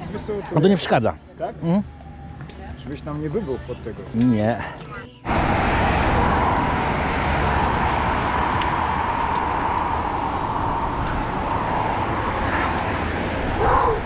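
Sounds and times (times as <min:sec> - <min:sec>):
wind and road noise: 0:02.0 - 0:14.0.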